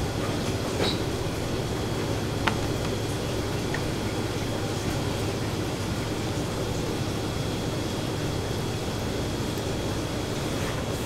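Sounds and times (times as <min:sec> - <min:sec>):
kitchen machinery hum: 0:00.0 - 0:11.0.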